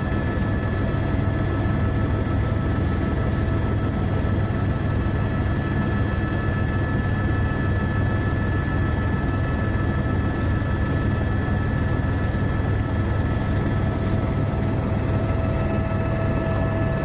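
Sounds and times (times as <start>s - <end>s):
aircraft engine drone: 0.0s - 17.0s
high engine whine: 0.0s - 17.0s.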